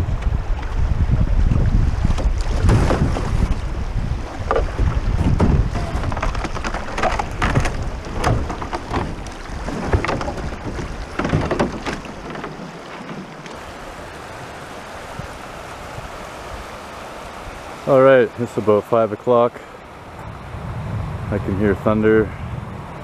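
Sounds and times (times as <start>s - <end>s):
wind buffeting microphone: 0.0s - 17.7s, 20.0s - 23.0s
river water rushing: 1.8s - 20.9s.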